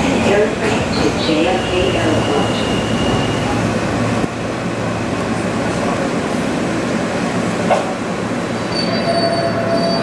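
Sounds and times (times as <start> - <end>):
subway train rumble and hiss: 0.0 - 10.0.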